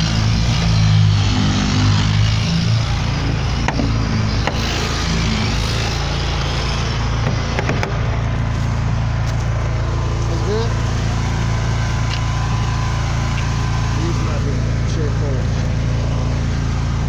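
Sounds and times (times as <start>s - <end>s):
machine motor humming: 0.0s - 17.0s.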